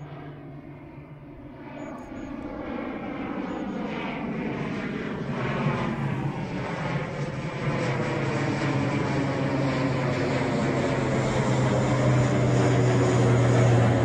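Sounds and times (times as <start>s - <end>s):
airplane engines droning: 0.0s - 14.0s.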